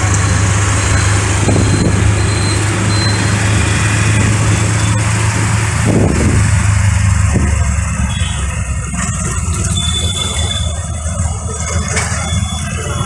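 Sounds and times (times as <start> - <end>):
low engine hum: 0.0 - 13.0
road traffic noise: 0.0 - 13.0.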